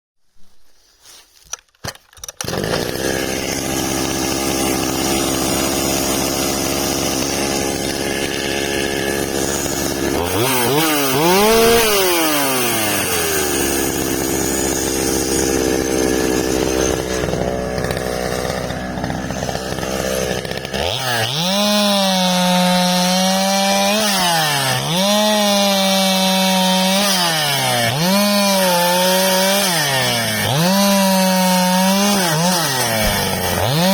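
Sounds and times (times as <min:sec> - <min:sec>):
chainsaw running and revving: 0:02.3 - 0:33.9.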